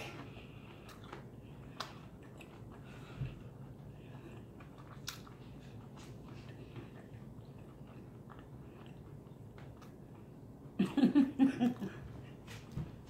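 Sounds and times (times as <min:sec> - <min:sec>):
chewing with mouth closed: 0:00.0 - 0:10.7.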